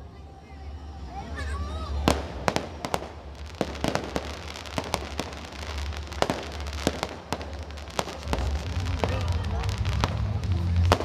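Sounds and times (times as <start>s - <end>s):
fireworks bursting and crackling: 1.4s - 11.0s
low rumble: 1.9s - 11.0s.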